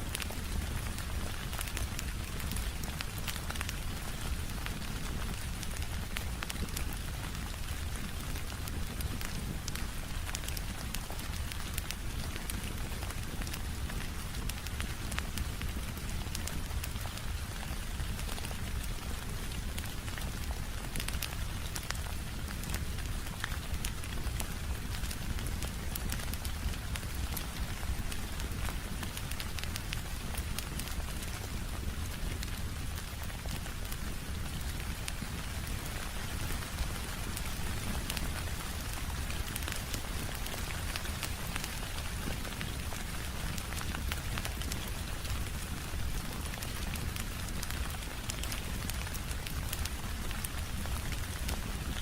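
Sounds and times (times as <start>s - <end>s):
steady rain: 0.0s - 52.0s
wood fire crackling: 0.0s - 52.0s.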